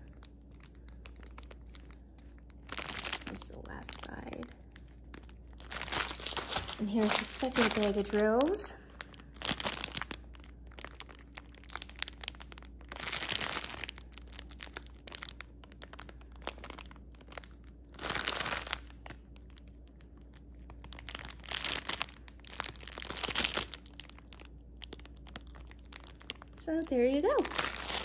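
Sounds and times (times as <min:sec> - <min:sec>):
plastic bag crinkling: 0:00.0 - 0:28.0.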